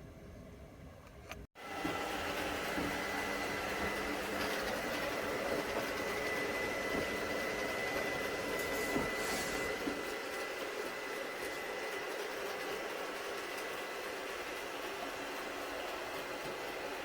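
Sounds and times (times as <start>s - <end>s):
robot vacuum motor whirring: 1.6s - 17.0s.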